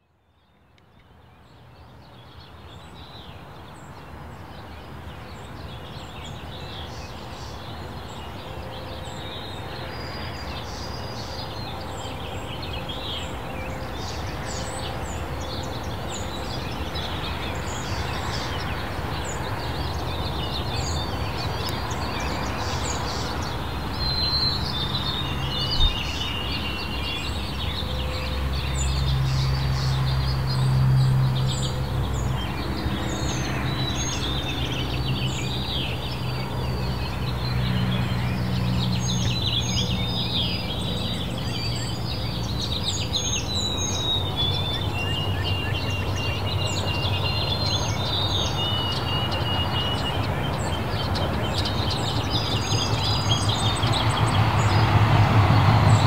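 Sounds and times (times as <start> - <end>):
songbirds chirping and singing: 0.7 - 56.0
distant road traffic rumble: 5.4 - 56.0.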